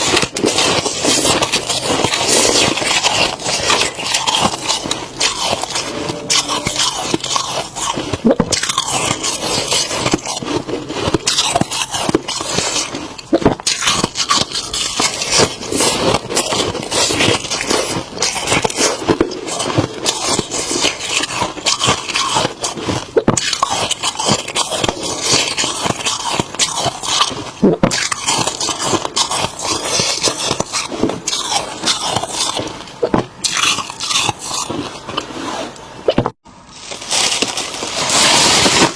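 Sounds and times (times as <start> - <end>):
chewing frost crunches: 0.0 - 38.9.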